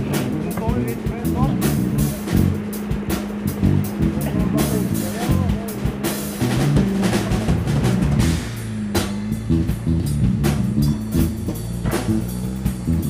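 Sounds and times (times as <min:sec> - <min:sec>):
rock music with drums and bass: 0:00.0 - 0:13.0.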